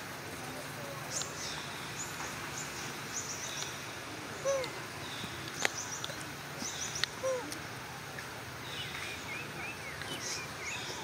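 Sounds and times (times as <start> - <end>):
outdoor background hiss: 0.0 - 11.0
forest birds chirping: 0.5 - 11.0.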